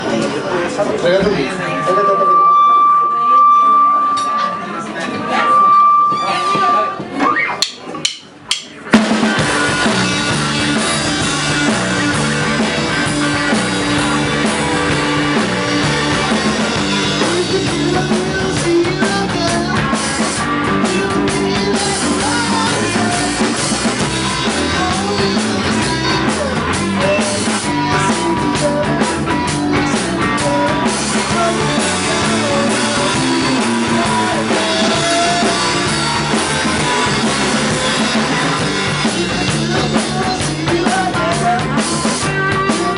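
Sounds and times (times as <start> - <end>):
rock music with drums and guitar: 7.0 - 42.9.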